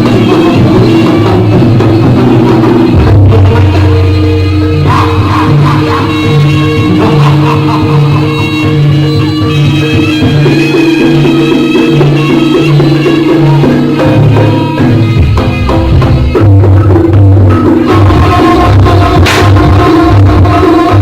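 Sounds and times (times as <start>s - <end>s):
drums and percussion: 0.0s - 21.0s
gamelan music: 0.0s - 21.0s.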